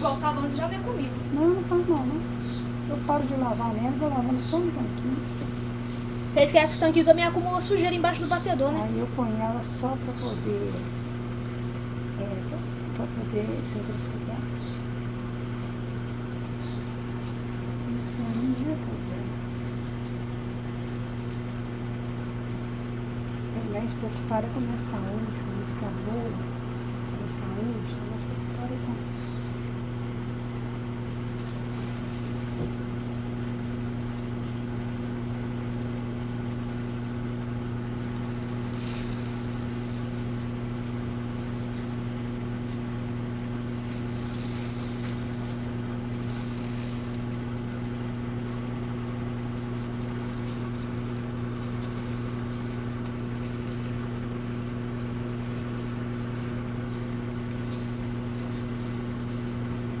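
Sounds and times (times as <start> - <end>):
washing machine humming: 0.0 - 60.0.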